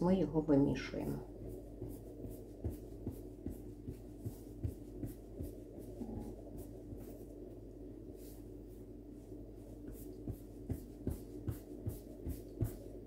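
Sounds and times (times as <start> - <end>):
dough kneading puffs and thuds: 0.0 - 13.0
steady low hum: 0.0 - 13.0.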